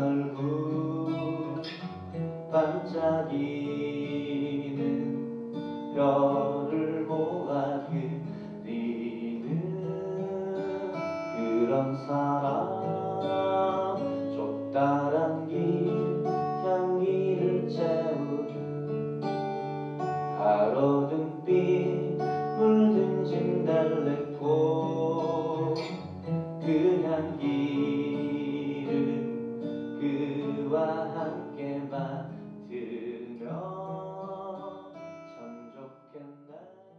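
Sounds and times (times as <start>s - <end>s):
acoustic guitar strummed and picked: 0.0s - 36.9s.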